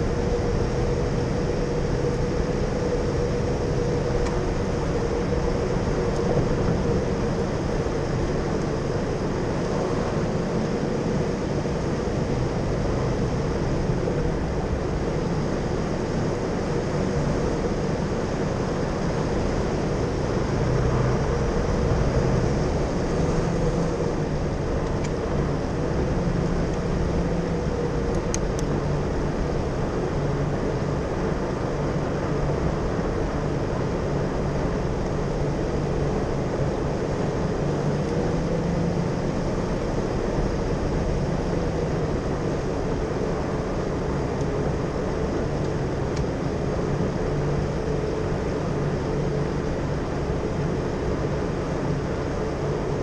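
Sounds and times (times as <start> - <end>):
car engine running evenly: 0.0 - 53.0.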